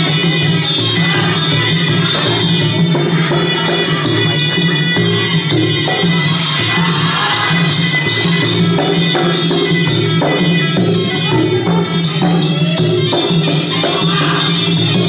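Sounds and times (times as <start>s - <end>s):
drums beating: 0.0s - 15.0s
small hand cymbals: 0.0s - 15.0s.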